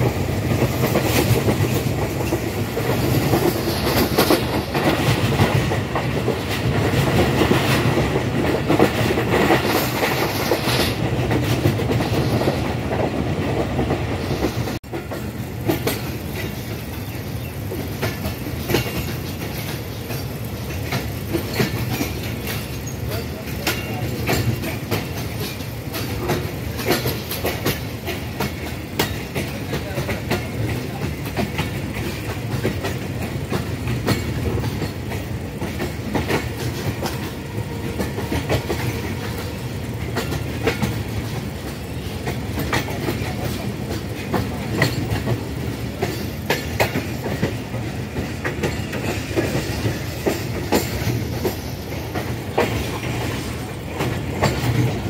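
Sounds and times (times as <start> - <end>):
train rumbling: 0.0 - 55.0
wheels clattering over rails: 0.0 - 55.0.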